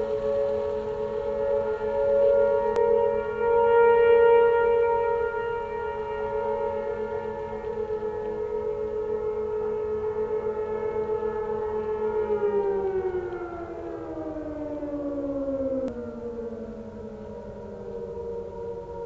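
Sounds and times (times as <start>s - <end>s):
siren winding down: 0.0s - 19.0s
warning sirens: 0.0s - 19.0s.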